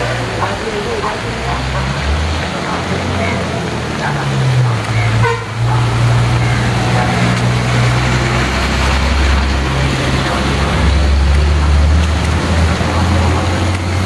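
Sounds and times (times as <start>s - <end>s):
diesel bus engine passing: 0.0s - 14.0s
rain: 0.0s - 14.0s
tyres hissing on wet road: 0.0s - 14.0s.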